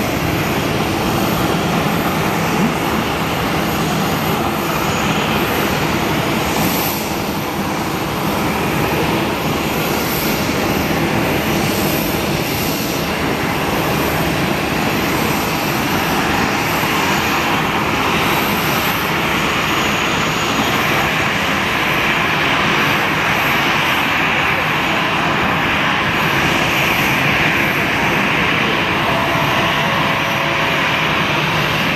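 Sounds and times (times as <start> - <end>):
jet engines taxiing: 0.0 - 31.9.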